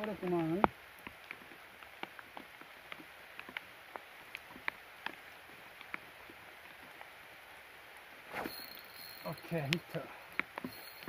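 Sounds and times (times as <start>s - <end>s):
rain hissing: 0.0s - 11.0s
raindrops tapping close by: 0.0s - 11.0s.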